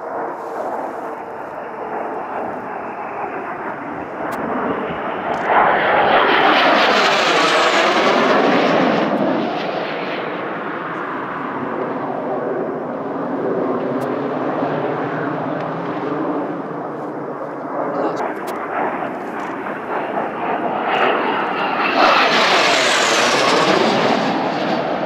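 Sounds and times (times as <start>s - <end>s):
jet aircraft flying overhead: 0.0s - 25.0s.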